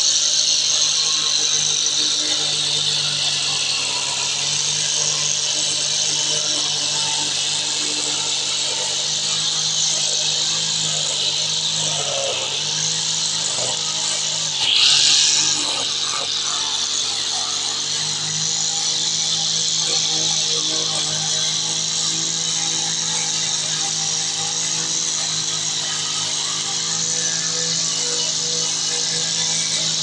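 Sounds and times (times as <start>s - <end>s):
brush cutter cutting grass: 0.0s - 30.0s.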